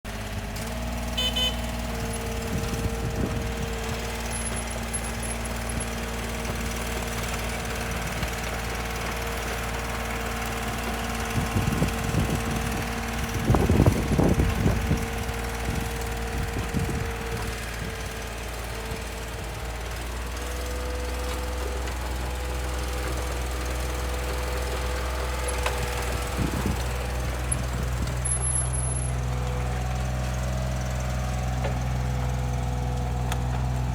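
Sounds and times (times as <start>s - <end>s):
diesel engine running: 0.1s - 33.9s
excavator clattering as it digs: 0.1s - 33.9s.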